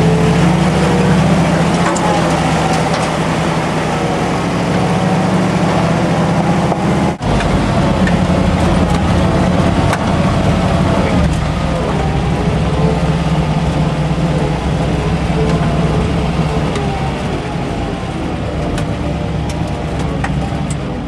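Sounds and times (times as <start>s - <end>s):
pickup engine running: 0.0s - 21.0s.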